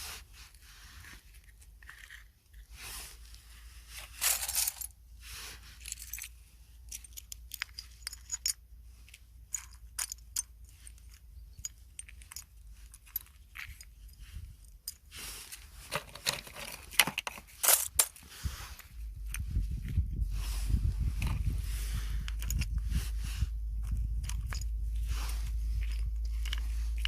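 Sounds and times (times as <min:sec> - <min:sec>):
rustling of small objects: 0:00.0 - 0:27.0.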